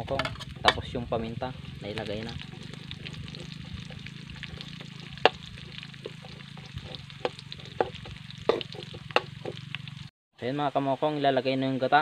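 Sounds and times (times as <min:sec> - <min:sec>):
food sizzling in hot oil: 0:00.0 - 0:10.1.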